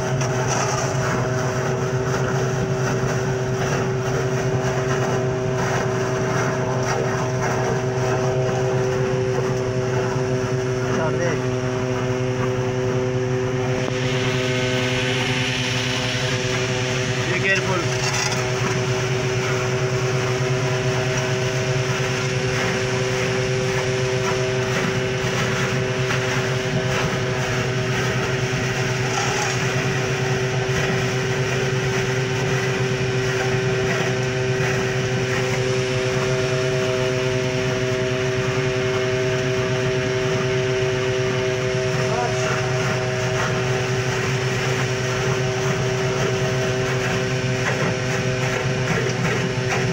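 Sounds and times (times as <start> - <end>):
engine droning steadily: 0.0 - 49.9.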